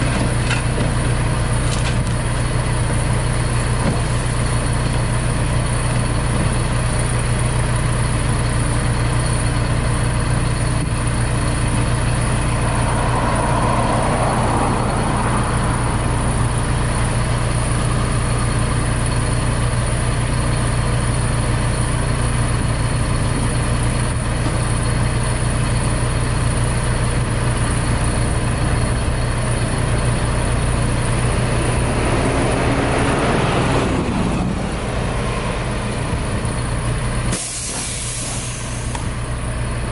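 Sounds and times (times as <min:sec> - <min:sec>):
garbage truck diesel engine idling: 0:00.0 - 0:39.9.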